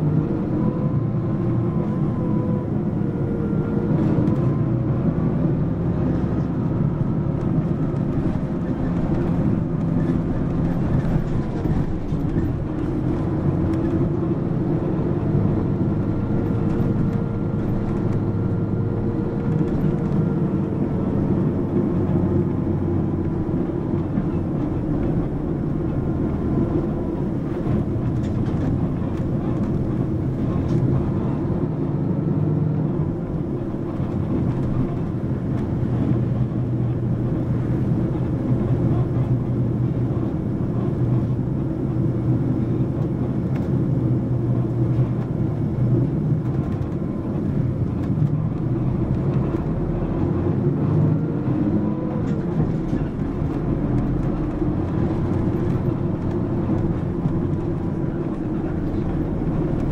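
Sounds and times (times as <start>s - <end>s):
bus diesel engine: 0.0s - 59.9s
road noise: 0.0s - 59.9s.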